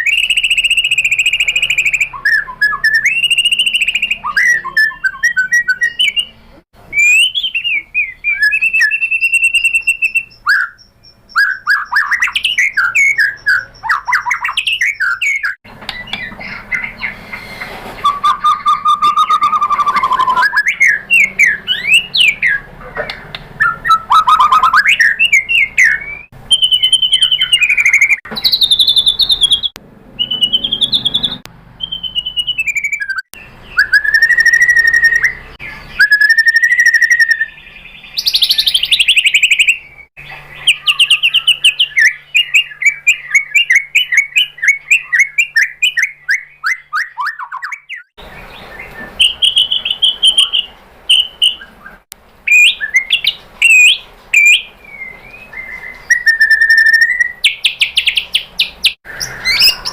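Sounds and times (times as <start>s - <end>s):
songbird singing whistled song: 0.0s - 59.9s.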